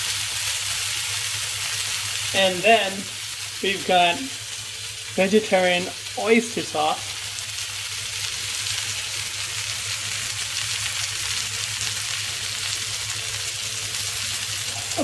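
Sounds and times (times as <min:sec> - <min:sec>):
noodles sizzling in hot oil: 0:00.0 - 0:15.0.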